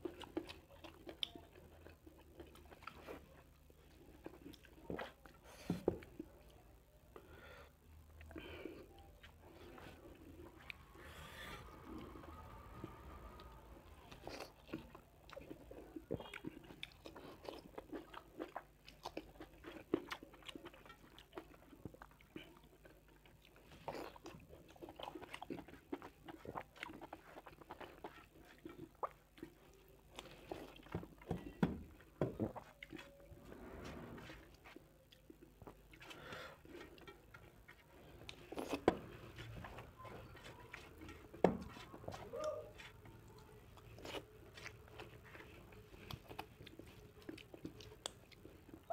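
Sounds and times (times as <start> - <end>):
wet chewing and mouth smacks: 0.0 - 6.6, 8.0 - 33.3, 34.5 - 48.9.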